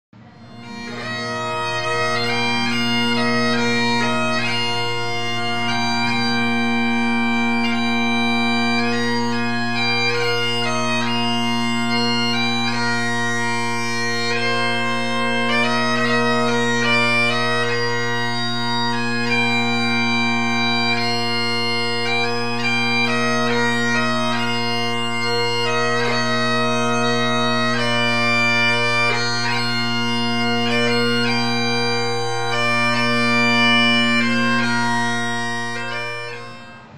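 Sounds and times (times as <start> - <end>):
bagpipe music: 0.2 - 36.9.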